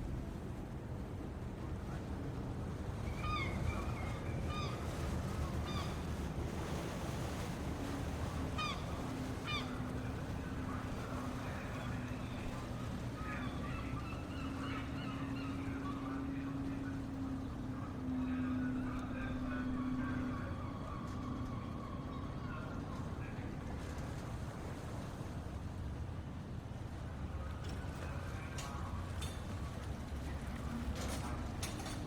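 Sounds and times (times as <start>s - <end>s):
low rumble of water: 0.0s - 32.0s
steady low hum: 3.7s - 31.6s.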